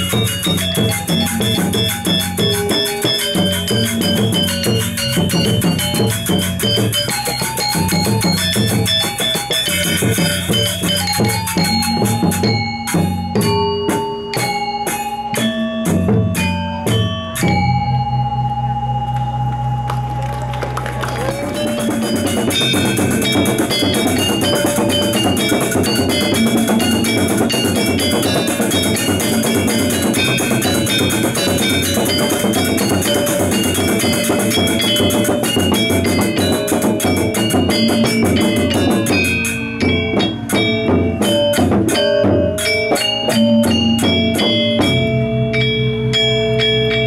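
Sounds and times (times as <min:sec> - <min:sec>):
drums: 0:00.0 - 0:47.0
gongs ringing: 0:00.0 - 0:47.0
metallophones playing fast: 0:00.0 - 0:47.0.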